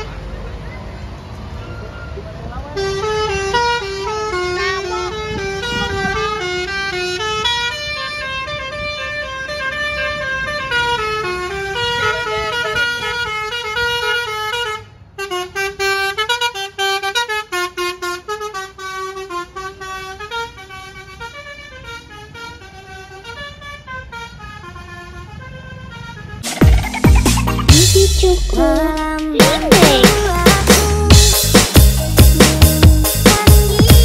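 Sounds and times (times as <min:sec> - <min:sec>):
multi-tone bus horn melody: 0:00.0 - 0:00.4, 0:02.6 - 0:34.0.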